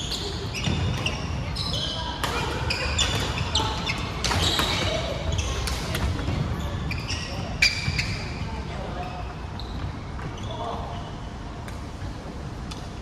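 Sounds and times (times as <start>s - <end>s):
sneakers squeaking: 0.0s - 13.0s.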